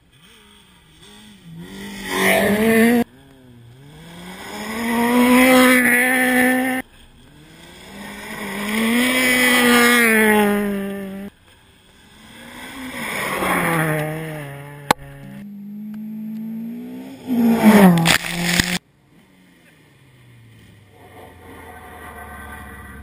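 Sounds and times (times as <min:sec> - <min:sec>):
rally car engines at high revs: 0:00.0 - 0:23.0.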